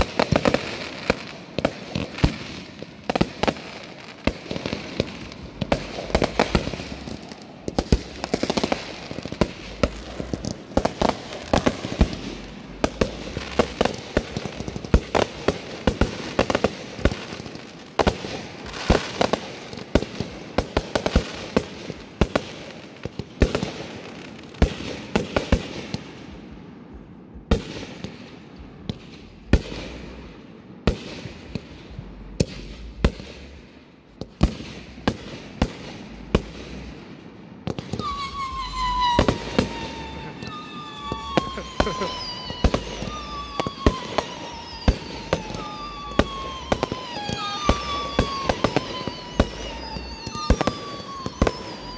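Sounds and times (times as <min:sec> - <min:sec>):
fireworks bangs and crackling: 0:00.0 - 0:51.9.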